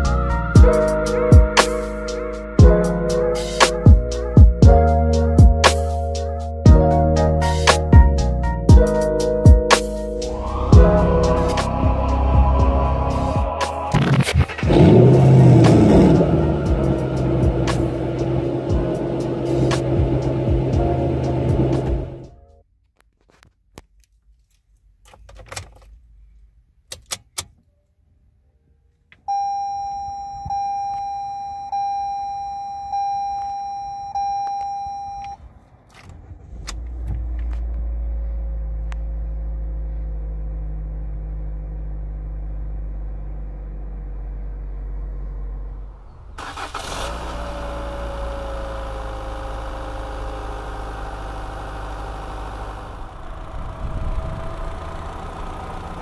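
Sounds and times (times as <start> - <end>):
car engine starting and idling: 0.0 - 22.6, 31.7 - 56.0.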